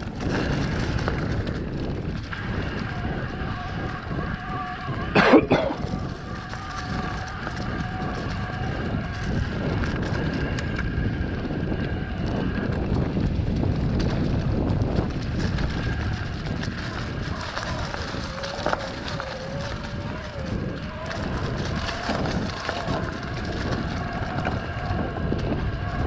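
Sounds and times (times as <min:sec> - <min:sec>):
electric bike motor whine: 0:00.0 - 0:05.1, 0:05.8 - 0:26.0
bike tyres on dirt trail: 0:00.0 - 0:26.0.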